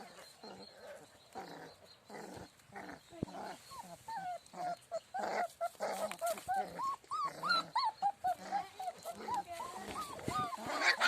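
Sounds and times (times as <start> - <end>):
puppies vocalising: 0.0 - 11.0
puppies whining: 0.0 - 11.0.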